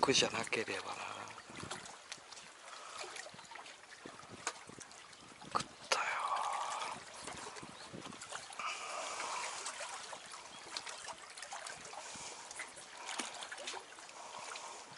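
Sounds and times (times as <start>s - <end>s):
water lapping against concrete: 0.0s - 14.9s.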